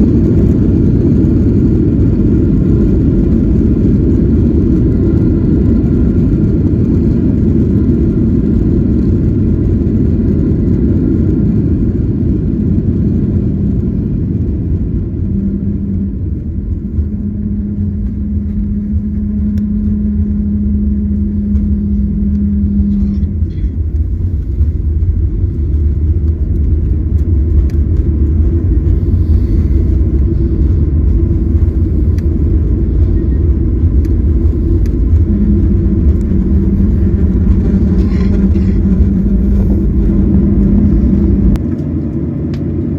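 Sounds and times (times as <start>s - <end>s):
jet engines idling rumble: 0.0s - 42.9s
steady hum: 0.0s - 42.9s.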